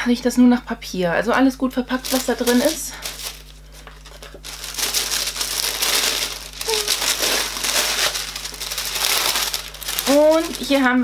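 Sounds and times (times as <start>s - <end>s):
tissue paper crinkling: 2.0s - 11.0s.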